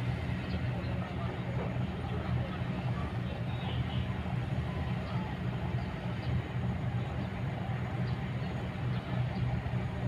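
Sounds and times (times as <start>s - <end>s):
excavator diesel engine rumbling: 0.0s - 10.0s.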